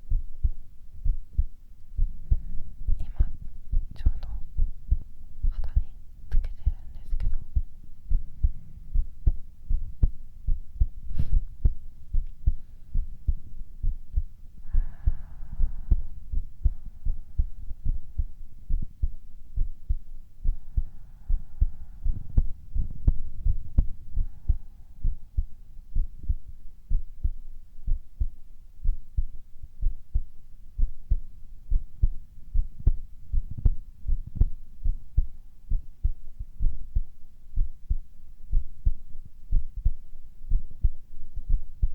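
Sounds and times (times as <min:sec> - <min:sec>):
heartbeat thumps: 0:00.0 - 0:41.9.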